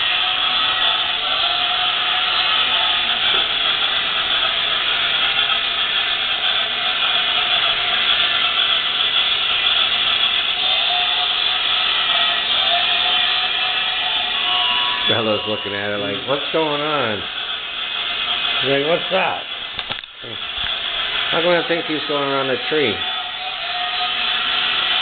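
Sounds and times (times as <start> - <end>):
toy train whirring on track: 0.0 - 25.0.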